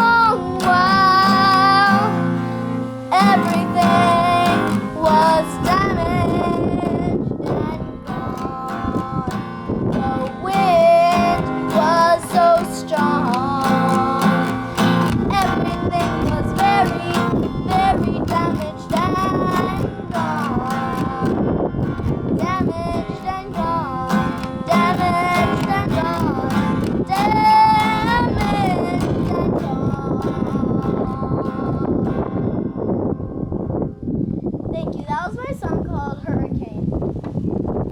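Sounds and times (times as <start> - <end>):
girl singing: 0.0 - 32.9, 34.7 - 36.9
acoustic guitar: 0.0 - 37.9.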